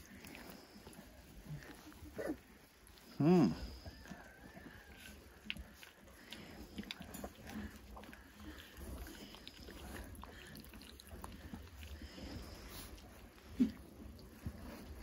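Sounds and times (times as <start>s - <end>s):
puppies rustling in wood shavings: 0.0s - 15.0s.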